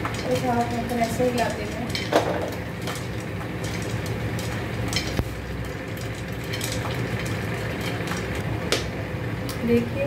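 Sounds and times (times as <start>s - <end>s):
popcorn popping in a pot: 0.0s - 10.0s.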